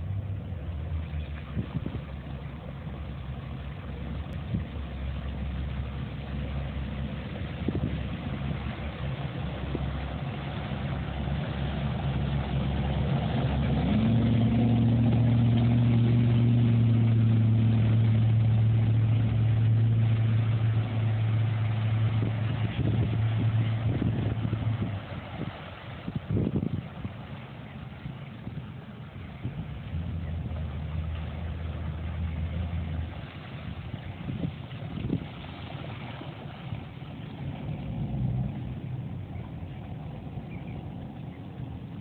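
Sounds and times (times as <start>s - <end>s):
boat motor running: 0.0s - 42.0s.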